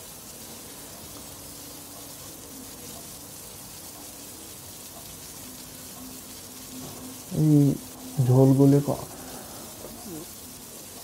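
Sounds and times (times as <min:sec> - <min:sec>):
prawns sizzling in a pan: 0:00.0 - 0:11.0.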